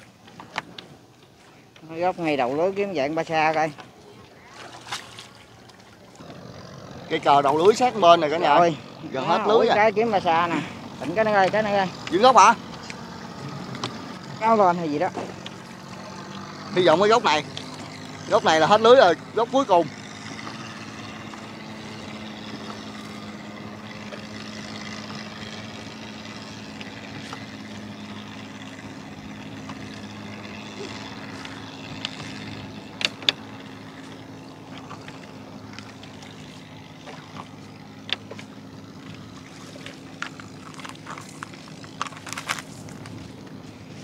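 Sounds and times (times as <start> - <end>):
boat engine running: 0.0 - 44.0.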